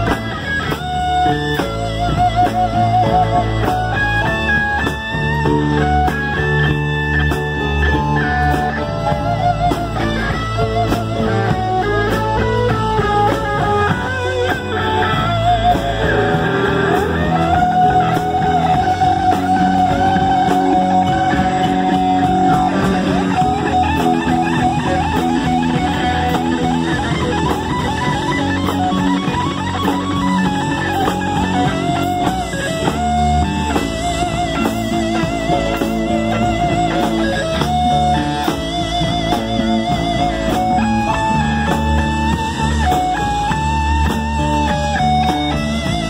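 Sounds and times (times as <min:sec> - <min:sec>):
distorted electric guitar solo: 0:00.0 - 0:46.0
rock band playing: 0:00.0 - 0:46.0.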